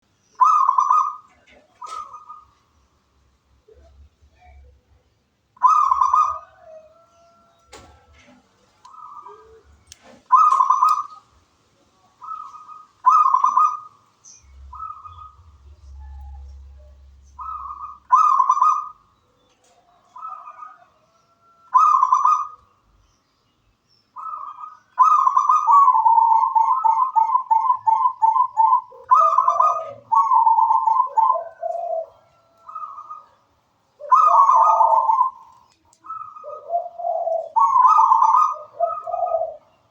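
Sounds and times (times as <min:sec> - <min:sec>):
dove cooing: 0:00.4 - 0:02.6, 0:05.6 - 0:11.3, 0:12.2 - 0:22.6, 0:24.2 - 0:39.9.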